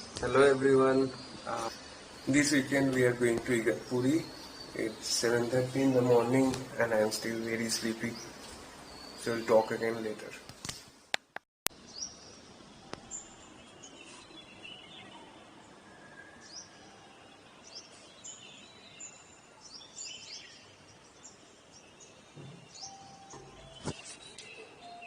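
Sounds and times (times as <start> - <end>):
small birds chirping: 0.0 - 10.8, 11.7 - 25.0
faint background hiss: 0.0 - 25.0.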